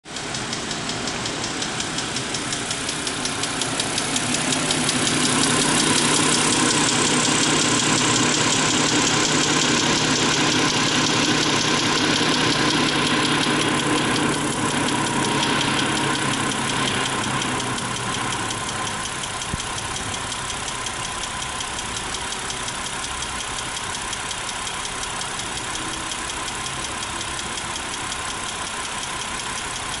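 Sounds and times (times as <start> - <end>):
car engine idling: 0.0 - 30.0
fast even tappet ticking: 0.1 - 30.0.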